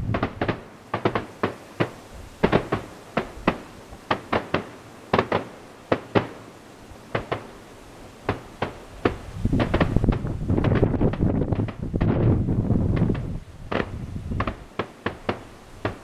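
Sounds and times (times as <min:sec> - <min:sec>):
fireworks bangs with echo: 0:00.0 - 0:06.5, 0:07.1 - 0:07.6, 0:08.2 - 0:16.0.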